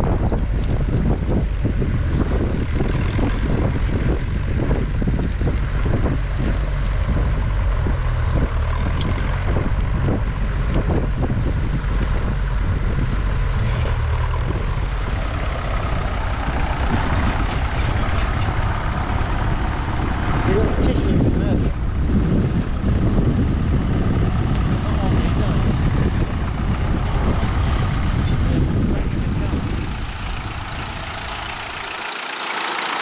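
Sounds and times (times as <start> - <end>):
tractor engine running under load: 0.0 - 33.0.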